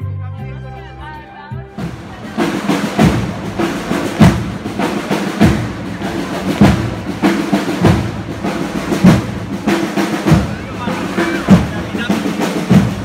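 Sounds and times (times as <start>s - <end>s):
bass drum strokes: 1.7s - 13.0s
snare drum taps and rolls: 2.4s - 13.0s.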